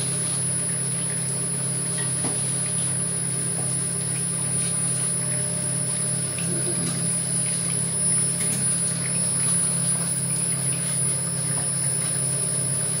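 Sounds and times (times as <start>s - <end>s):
oil press motor humming: 0.0s - 13.0s.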